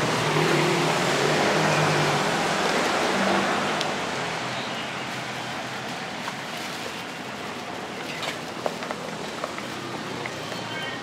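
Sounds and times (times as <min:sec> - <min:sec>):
street noise hiss: 0:00.0 - 0:11.0.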